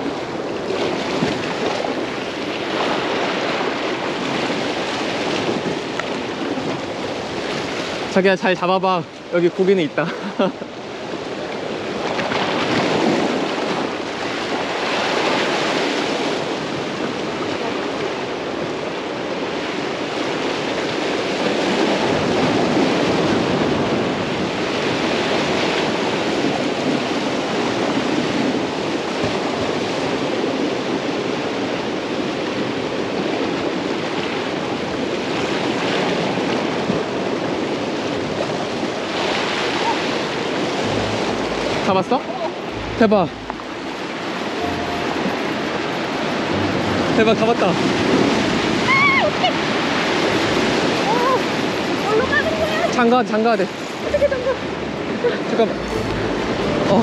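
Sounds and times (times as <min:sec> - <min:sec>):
water rushing at the shore: 0:00.0 - 0:57.0.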